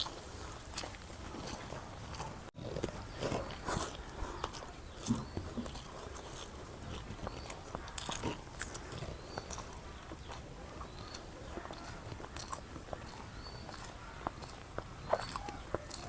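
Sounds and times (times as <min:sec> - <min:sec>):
person chewing with mouth smacks: 0:00.0 - 0:16.0.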